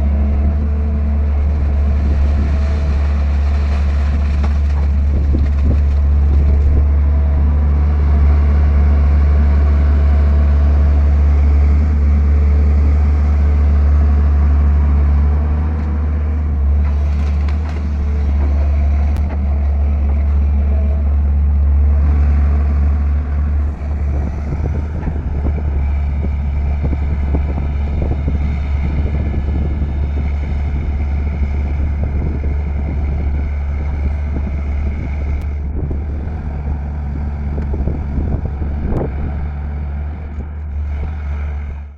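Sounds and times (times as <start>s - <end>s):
excavator diesel engine drone: 0.0s - 41.9s.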